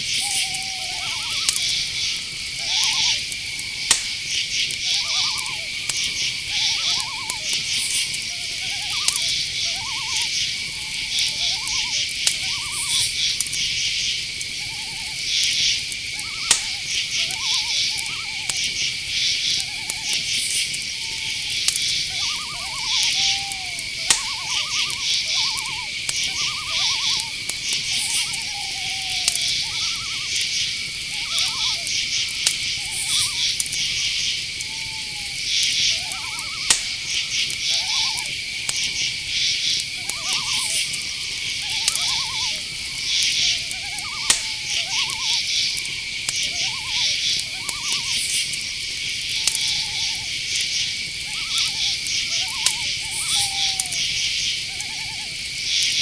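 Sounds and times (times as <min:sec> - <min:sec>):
cricket trills: 0:00.0 - 0:56.0
fast-pulsed calls gliding down: 0:00.0 - 0:56.0
high insect drone: 0:00.0 - 0:56.0.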